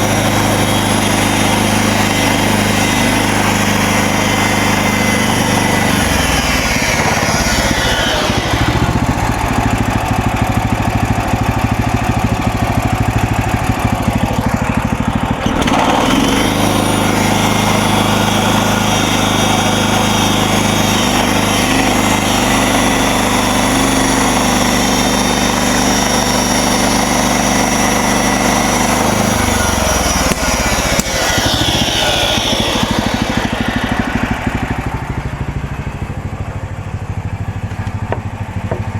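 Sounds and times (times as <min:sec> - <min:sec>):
band saw blade sawing log: 0:00.0 - 0:35.6
gas engine running under load: 0:00.0 - 0:38.9.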